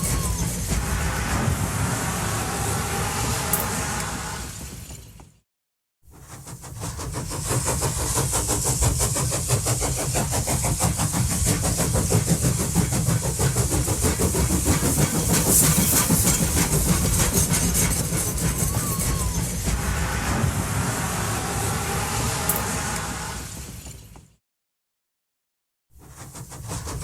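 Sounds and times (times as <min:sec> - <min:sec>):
train running: 0:00.0 - 0:05.4, 0:06.1 - 0:24.4, 0:26.0 - 0:27.0.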